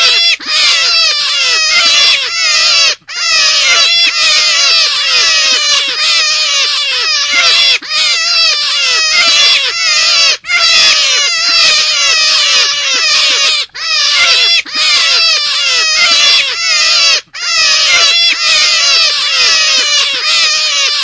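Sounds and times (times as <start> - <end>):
rabbit squeals: 0.0 - 21.0.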